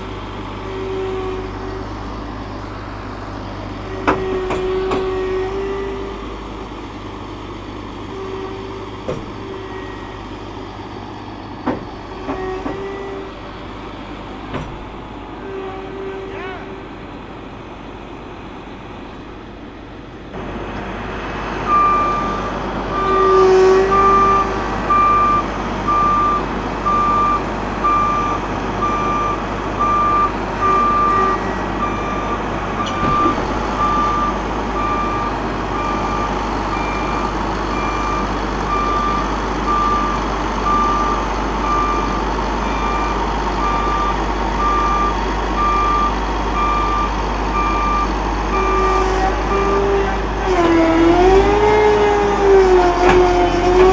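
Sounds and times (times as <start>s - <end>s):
vehicle back-up alarm beeping: 0.0s - 17.1s, 21.6s - 53.9s
diesel engine running: 0.0s - 53.9s.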